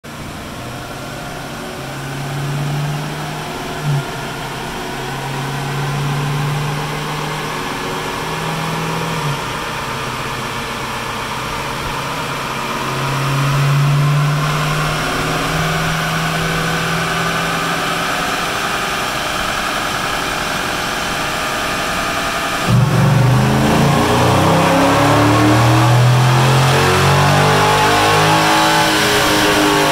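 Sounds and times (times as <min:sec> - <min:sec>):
car engine on dyno: 0:00.0 - 0:29.9.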